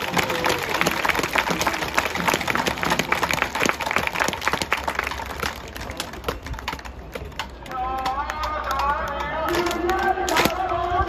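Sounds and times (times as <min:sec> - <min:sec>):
crowd clapping: 0:00.0 - 0:10.6.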